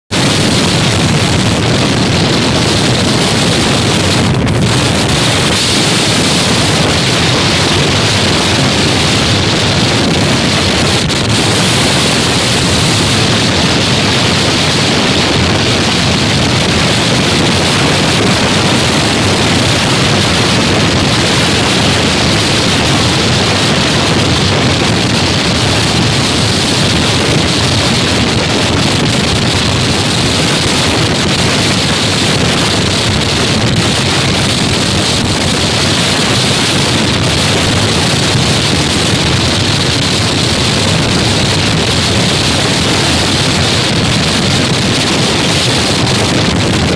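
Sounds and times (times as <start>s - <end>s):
waves breaking along ship hull: 0.1s - 46.9s
wind buffeting microphone: 0.1s - 46.9s.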